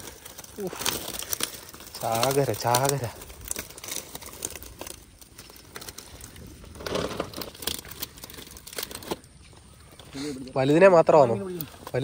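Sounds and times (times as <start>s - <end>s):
plastic sack and net rustling: 0.0s - 12.0s.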